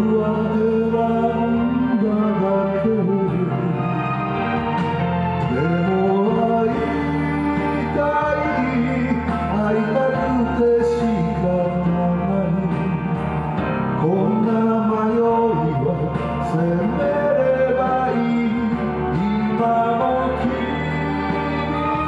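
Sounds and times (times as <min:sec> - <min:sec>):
man singing into microphone: 0:00.0 - 0:04.2, 0:05.3 - 0:22.0
karaoke backing track: 0:00.0 - 0:22.0.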